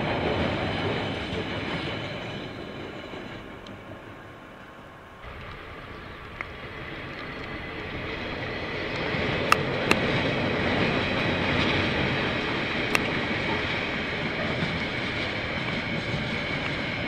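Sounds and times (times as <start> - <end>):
freight train passing: 0.0 - 17.0.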